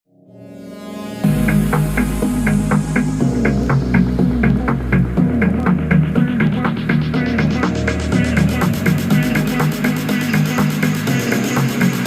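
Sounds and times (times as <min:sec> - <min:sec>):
held synth chord: 0:00.1 - 0:12.0
electronic beat with bass and drums: 0:01.2 - 0:12.0.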